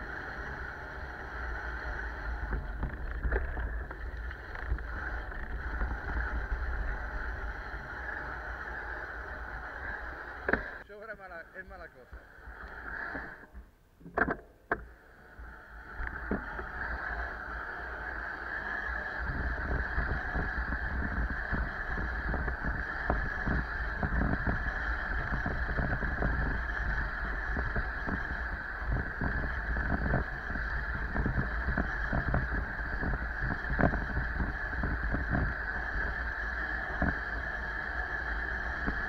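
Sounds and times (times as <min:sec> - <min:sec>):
wind on microphone: 0:00.0 - 0:10.8, 0:15.4 - 0:39.0
bicycle rattling over rough road: 0:00.0 - 0:10.9, 0:12.4 - 0:39.0.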